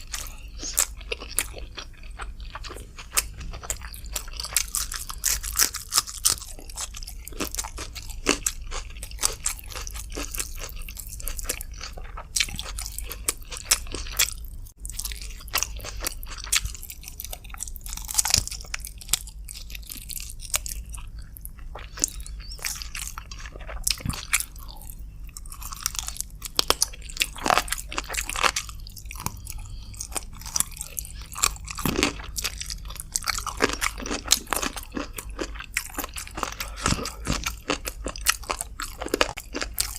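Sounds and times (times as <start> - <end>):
crunchy bites: 0.0 - 39.9
wet chewing: 0.0 - 39.9.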